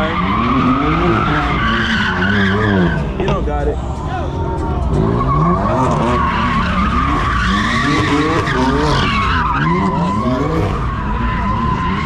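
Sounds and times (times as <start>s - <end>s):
car engine revving: 0.0s - 12.0s
tires squealing: 0.0s - 12.0s.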